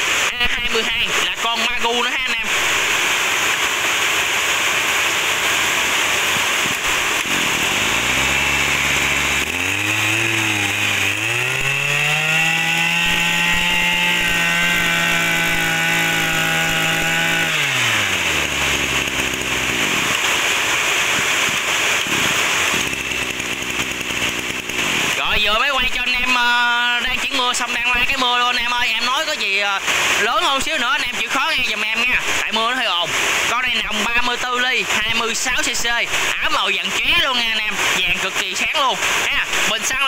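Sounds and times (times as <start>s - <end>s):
brush cutter engine revving: 0.0s - 40.0s.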